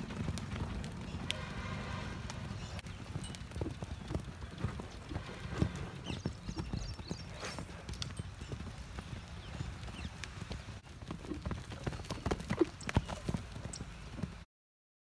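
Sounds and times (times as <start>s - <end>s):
horse hoofbeats on sand: 0.0s - 14.4s.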